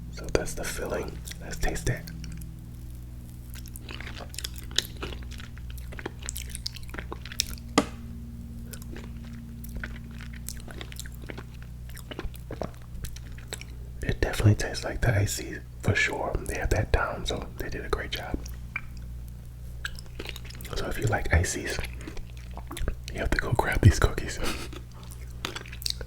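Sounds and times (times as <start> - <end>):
chewing and crunching cookie: 0.0 - 26.0
low electrical hum: 0.0 - 26.0.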